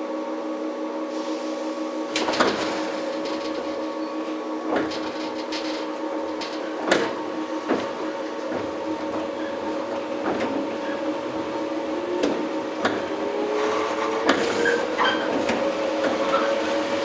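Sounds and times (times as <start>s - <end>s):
electric train motor hum: 0.0s - 17.0s.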